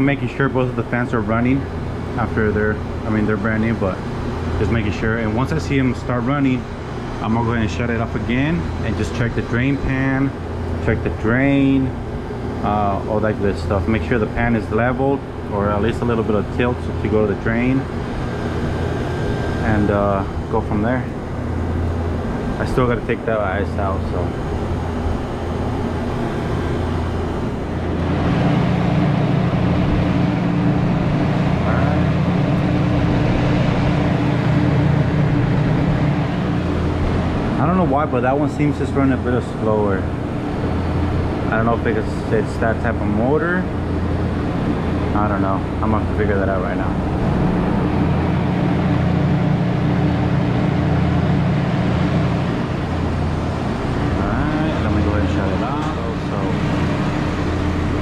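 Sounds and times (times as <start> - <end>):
higher pitched hum: 0.0 - 58.0
refrigeration unit humming: 0.0 - 58.0.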